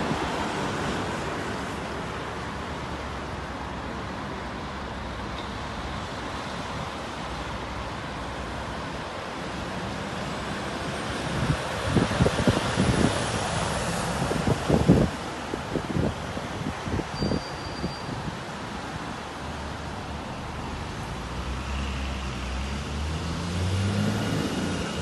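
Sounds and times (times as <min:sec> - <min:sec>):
road traffic driving past: 0:00.0 - 0:25.0.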